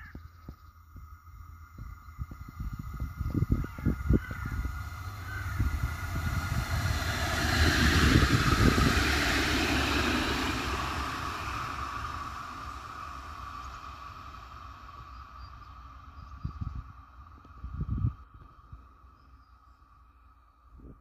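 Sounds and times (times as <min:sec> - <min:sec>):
high whine: 0:00.0 - 0:20.9
tram wheels rumbling on rails: 0:00.0 - 0:21.0.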